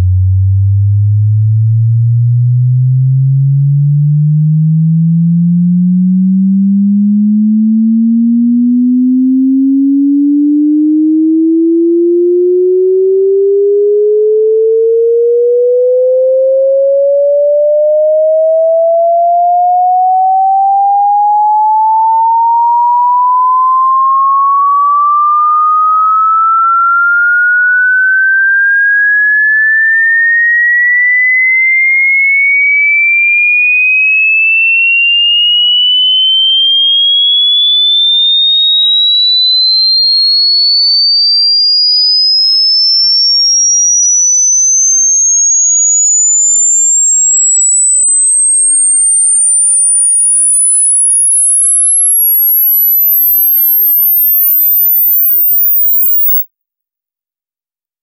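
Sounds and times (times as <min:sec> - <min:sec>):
sine wave tone sweeping upward: 0:00.0 - 0:56.5.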